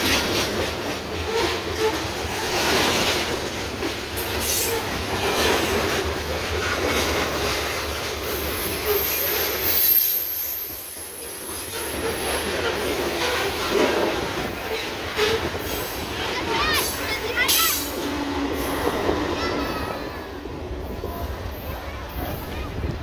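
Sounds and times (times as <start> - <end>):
steel wheels clattering on rails: 0.0 - 23.0.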